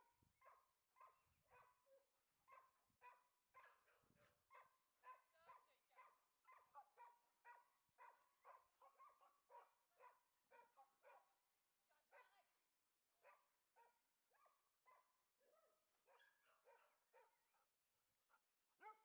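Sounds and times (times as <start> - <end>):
dog barking: 0.0 - 11.4, 12.1 - 12.5, 13.2 - 17.7, 18.8 - 19.0.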